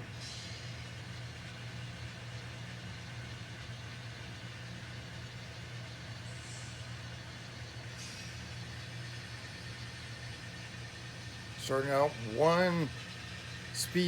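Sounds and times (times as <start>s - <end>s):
model locomotive engine hum: 0.0s - 14.0s.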